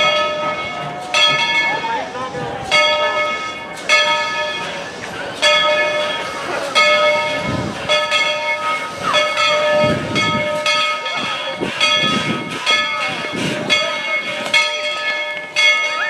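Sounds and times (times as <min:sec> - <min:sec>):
steam exhaust chuffs: 0:00.0 - 0:15.6
steam locomotive bell ringing: 0:00.0 - 0:16.0.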